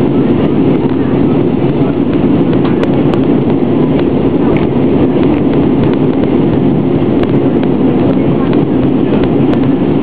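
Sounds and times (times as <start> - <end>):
jet airliner cabin roar: 0.0 - 10.0.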